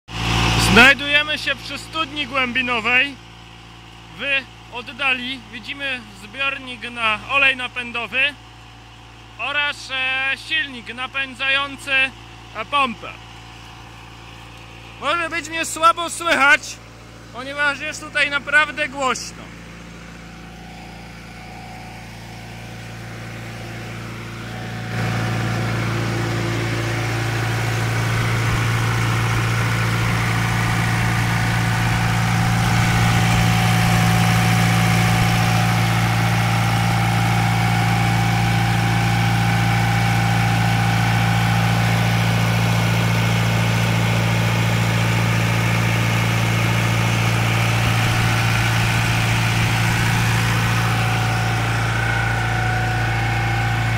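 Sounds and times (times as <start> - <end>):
diesel engine running steadily: 0.1 - 53.9.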